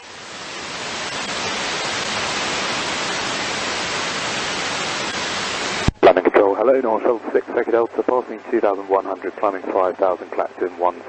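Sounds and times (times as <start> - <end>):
radio static hiss: 0.8 - 11.0.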